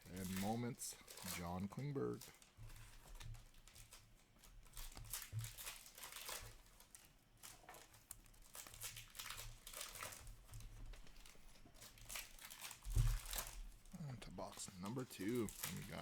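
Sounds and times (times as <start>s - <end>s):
crinkling card pack wrappers: 0.0s - 16.0s.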